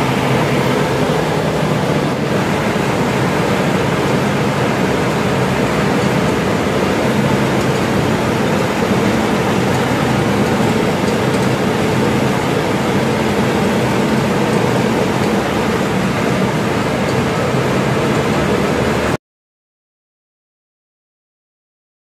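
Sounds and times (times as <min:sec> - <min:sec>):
faint hum: 0:00.0 - 0:19.2
pump and rushing water: 0:00.0 - 0:19.2.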